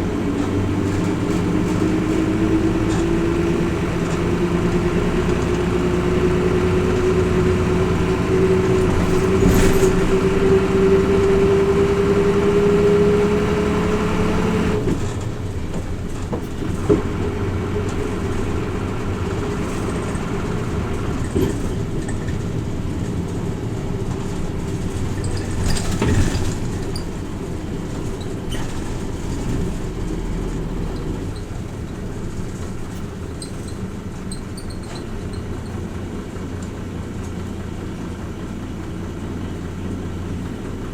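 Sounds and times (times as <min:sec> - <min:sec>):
road and body noise: 0:00.0 - 0:39.5
bus diesel engine pulling: 0:00.0 - 0:40.9.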